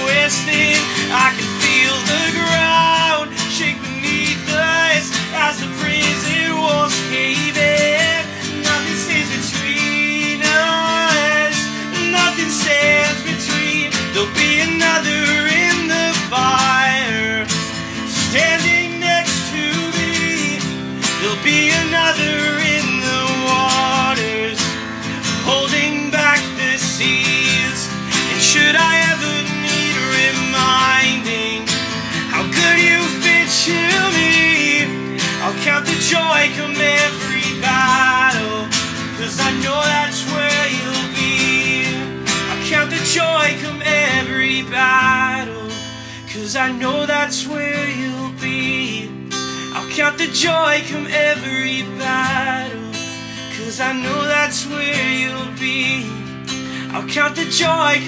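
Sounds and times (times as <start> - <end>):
acoustic guitar strumming: 0.0 - 58.0
person singing: 0.0 - 58.0.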